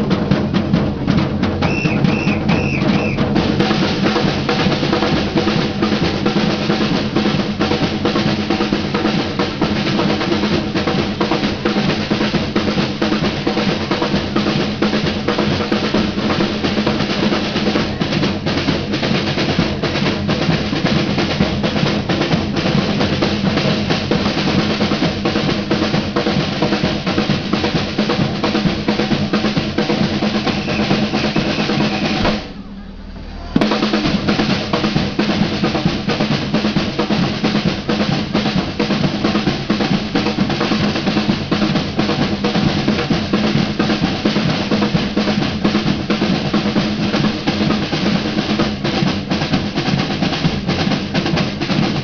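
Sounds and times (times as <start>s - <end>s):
samba drum band playing: 0.0s - 52.0s.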